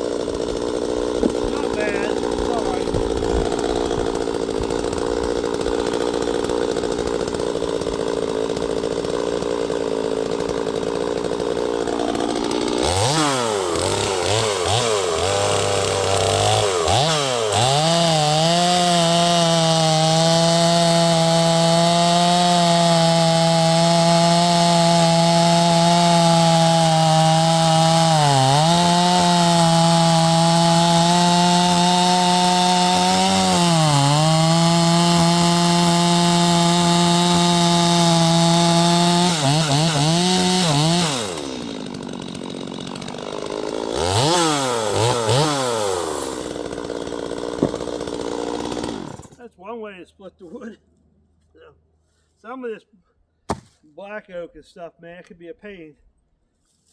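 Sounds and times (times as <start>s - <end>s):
chainsaw engine revving: 0.0s - 49.4s.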